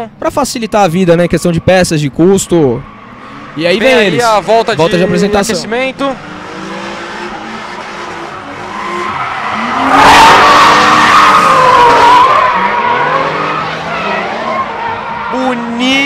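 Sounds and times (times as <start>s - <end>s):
car engines revving: 0.1s - 16.0s
tyres squealing: 0.5s - 16.0s.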